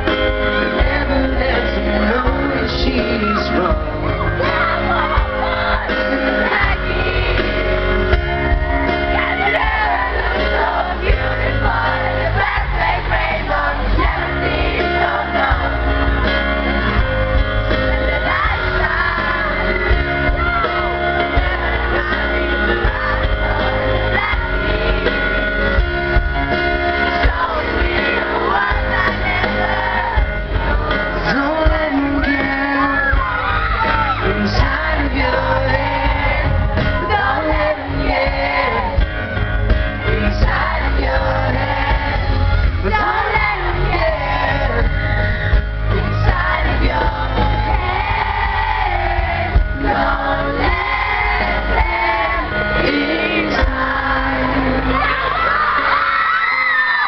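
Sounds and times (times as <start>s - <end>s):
fans shouting and singing along: 0.0s - 57.0s
live pop band playing and singing: 0.0s - 57.0s.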